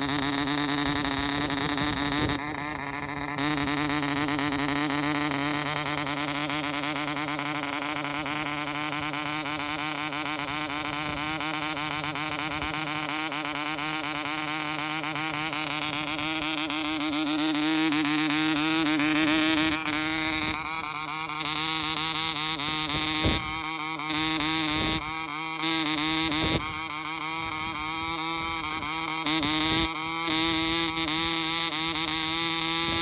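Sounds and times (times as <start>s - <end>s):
model diesel engine buzzing: 0.0s - 33.0s.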